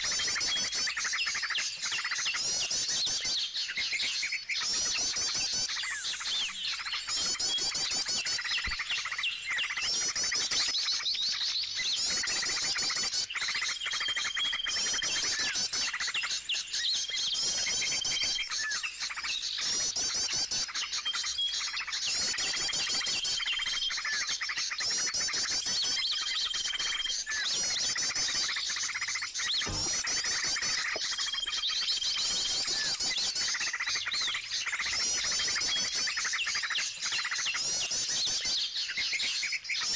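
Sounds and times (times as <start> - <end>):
forest birds chirping chorus: 0.0 - 39.9.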